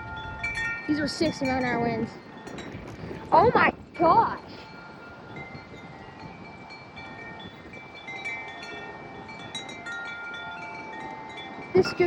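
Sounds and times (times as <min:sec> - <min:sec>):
wind chimes ringing: 0:00.0 - 0:12.0
wind on microphone: 0:00.0 - 0:12.0.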